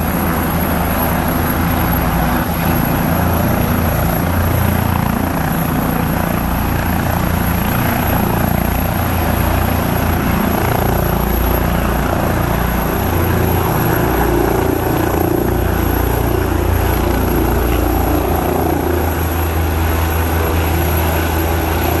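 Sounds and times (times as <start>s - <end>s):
helicopter rotors and turbines: 0.0s - 22.0s.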